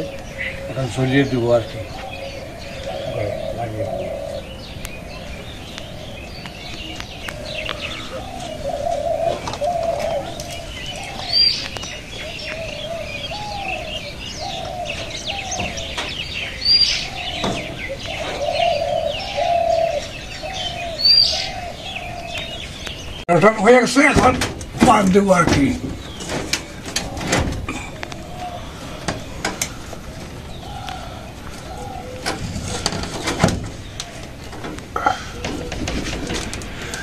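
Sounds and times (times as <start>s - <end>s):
dove cooing: 0.0s - 23.0s, 25.8s - 37.0s
sharp bird calls: 0.0s - 37.0s
small birds chirping: 0.0s - 37.0s.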